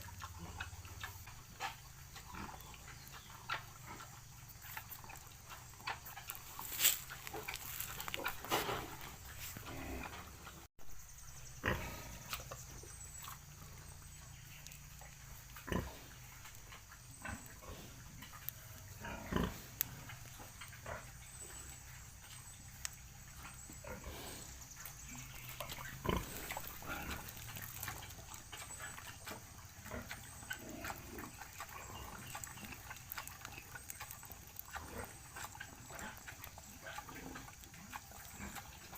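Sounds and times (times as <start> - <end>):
pig grunting: 0.0 - 10.7, 11.6 - 12.8, 15.4 - 21.9, 23.3 - 38.9.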